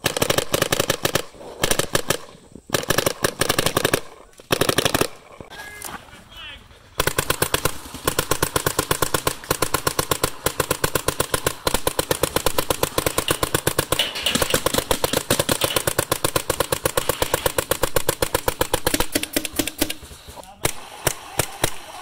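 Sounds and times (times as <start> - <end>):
paintball marker firing rapidly: 0.0 - 5.4, 7.0 - 22.0.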